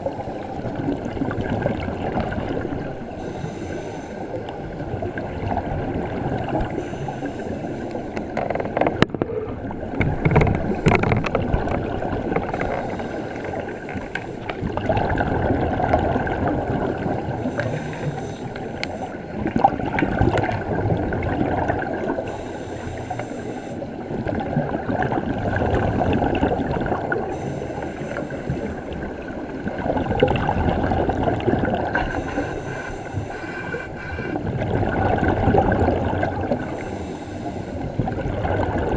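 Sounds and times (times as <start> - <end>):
underwater exhaled bubbles gurgling: 0.0 - 38.9.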